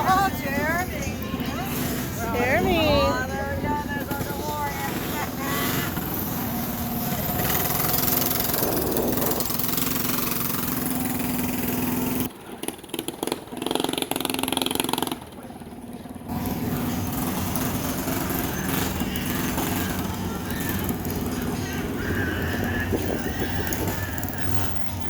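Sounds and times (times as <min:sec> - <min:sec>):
outdoor noise: 0:00.0 - 0:25.0
vehicle engine running: 0:00.0 - 0:25.0.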